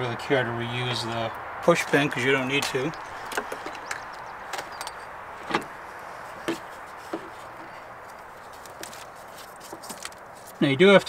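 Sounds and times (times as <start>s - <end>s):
light clicks and knocks of parts: 1.8s - 11.0s.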